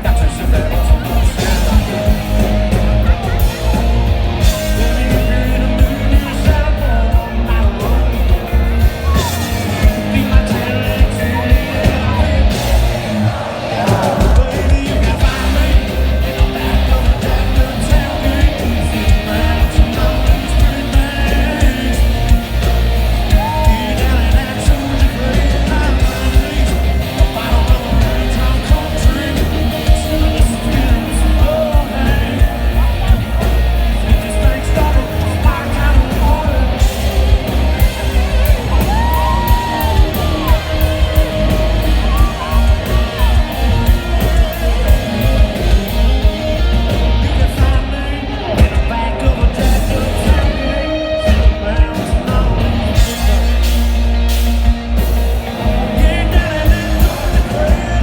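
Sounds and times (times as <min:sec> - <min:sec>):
person singing: 0:00.0 - 0:54.2, 0:55.5 - 0:58.0
electric guitars: 0:00.0 - 0:58.0
heavy kick-drum beat: 0:00.0 - 0:58.0.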